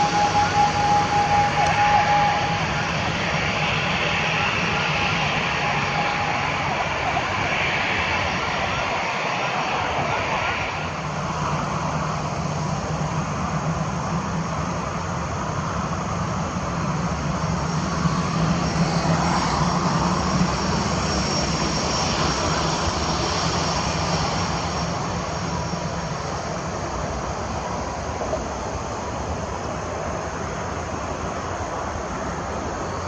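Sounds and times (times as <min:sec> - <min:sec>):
high jet engine whine: 0:00.0 - 0:33.0
jet engine drone: 0:00.0 - 0:33.0.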